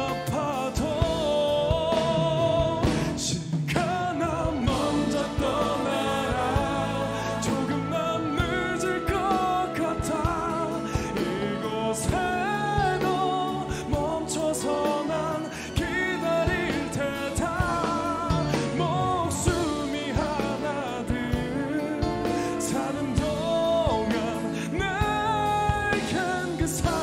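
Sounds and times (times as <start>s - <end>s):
backing band with drums: 0.0s - 27.0s
man singing a slow ballad: 0.0s - 27.0s.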